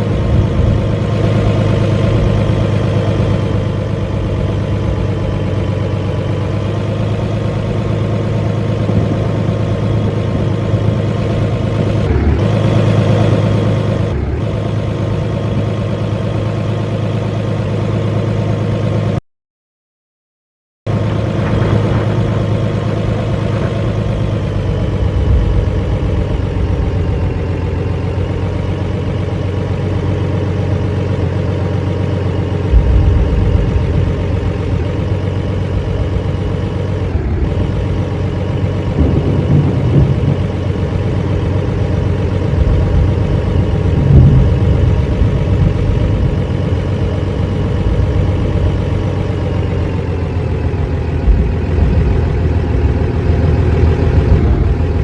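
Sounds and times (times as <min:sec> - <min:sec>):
vehicle engine droning: 0:00.0 - 0:19.2, 0:20.9 - 0:55.0.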